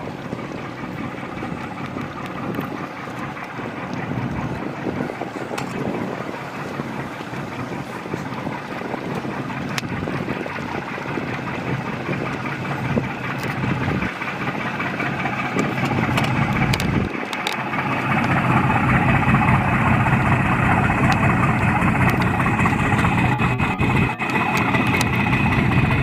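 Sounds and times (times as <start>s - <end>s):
boat diesel engines humming: 0.0s - 26.0s.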